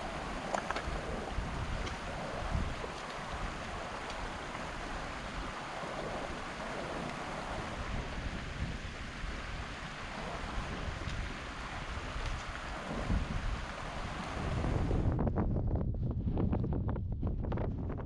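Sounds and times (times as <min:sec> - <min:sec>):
heavy rain hiss: 0:00.0 - 0:15.1
wind buffeting microphone: 0:00.0 - 0:18.0.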